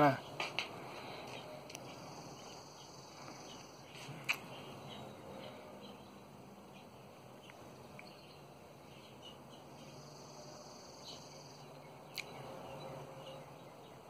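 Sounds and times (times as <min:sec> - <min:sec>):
steady high buzz: 0:00.0 - 0:13.6.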